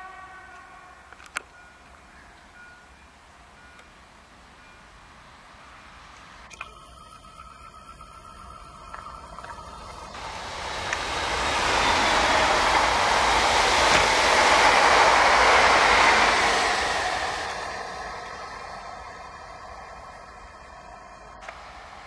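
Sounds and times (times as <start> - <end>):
electric train passing: 0.0 - 6.4, 7.3 - 22.0
wheels rushing on rail: 0.0 - 6.4, 9.0 - 22.0.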